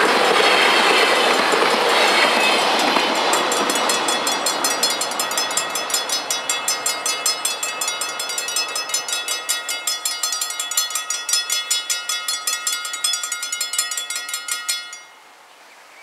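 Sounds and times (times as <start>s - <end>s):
level crossing bells ringing: 2.1s - 15.2s.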